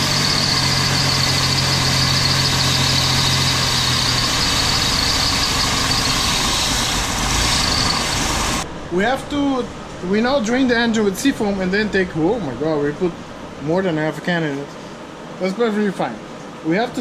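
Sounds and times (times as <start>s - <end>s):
car engine idling: 0.0s - 13.8s
high vacuum whine: 0.0s - 17.0s.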